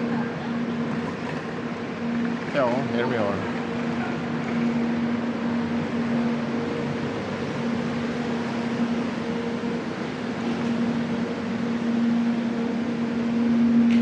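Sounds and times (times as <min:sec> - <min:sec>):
electric train humming: 0:00.0 - 0:14.0
machinery and ventilation noise: 0:00.0 - 0:14.0.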